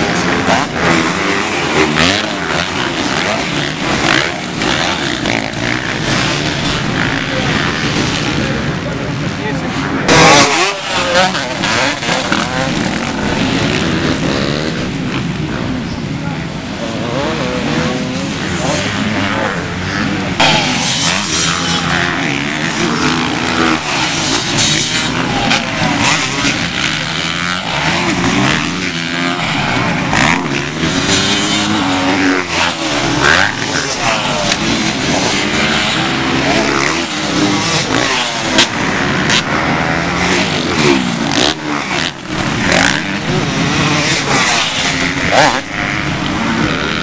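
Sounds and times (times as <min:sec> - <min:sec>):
bike passing close: 0:00.0 - 0:47.0
motocross bike engines revving: 0:00.0 - 0:47.0.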